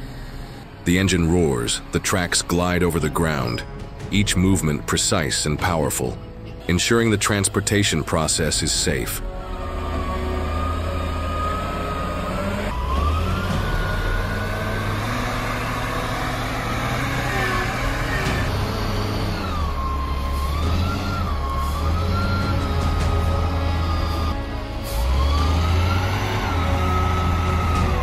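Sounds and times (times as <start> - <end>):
diesel engine revving: 0.0 - 28.0
high whine: 0.0 - 28.0.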